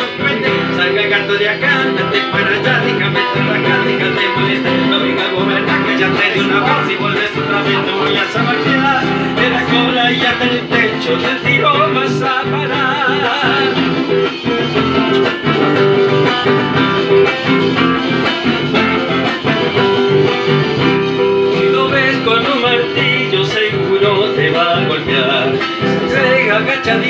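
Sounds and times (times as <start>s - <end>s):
acoustic guitar strumming rhythm: 0.0s - 27.0s.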